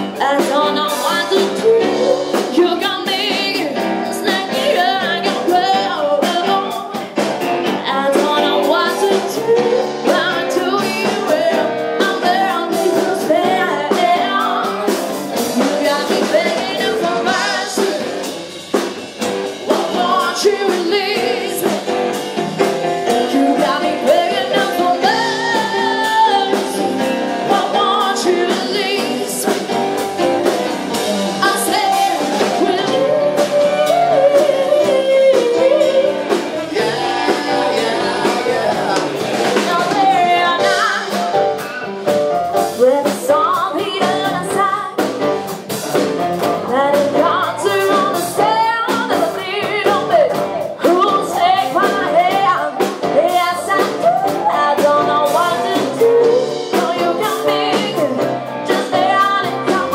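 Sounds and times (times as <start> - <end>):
woman singing into a microphone: 0.0 - 18.4, 19.5 - 22.3, 23.0 - 30.0, 31.0 - 41.4, 42.7 - 45.2, 46.6 - 59.9
live band playing: 0.0 - 59.9.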